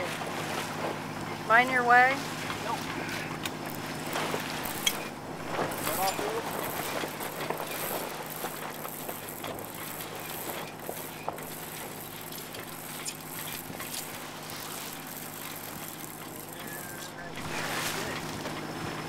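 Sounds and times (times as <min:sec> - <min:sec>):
low steady hum: 0:00.0 - 0:19.0
wind and water rushing along hull: 0:00.0 - 0:19.0.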